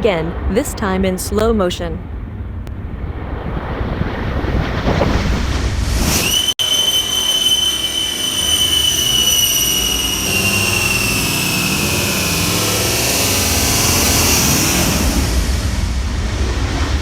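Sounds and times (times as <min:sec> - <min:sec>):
jet engines whining and rumbling: 0:00.0 - 0:17.0.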